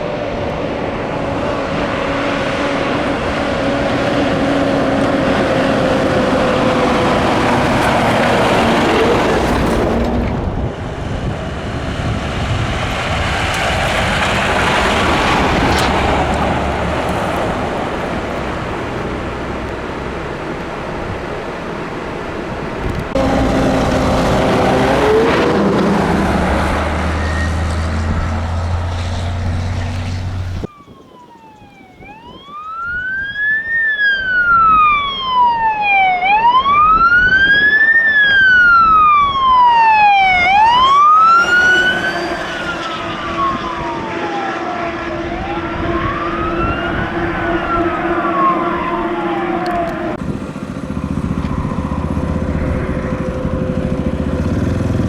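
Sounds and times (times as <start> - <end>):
heavy vehicle engine: 0.0 - 30.7, 40.0 - 55.0
fire engine wail siren: 0.0 - 55.0.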